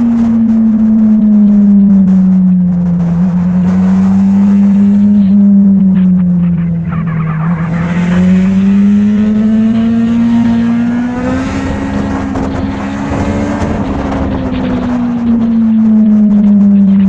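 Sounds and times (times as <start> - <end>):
motorcycle engine accelerating: 0.0 - 17.0
rushing noise: 2.0 - 17.0.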